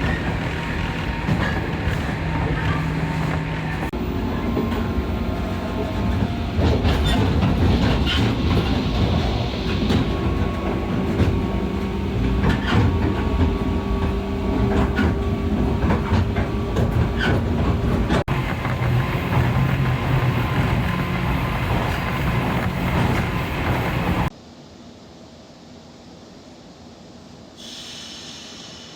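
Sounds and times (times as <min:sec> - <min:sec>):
wheels clacking over rail joints: 0:00.0 - 0:24.3
train rumbling along track: 0:00.0 - 0:24.4.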